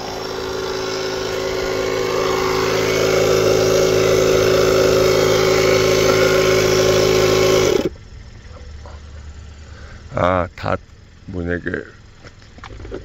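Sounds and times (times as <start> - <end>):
air compressor motor hum: 0.0 - 13.0.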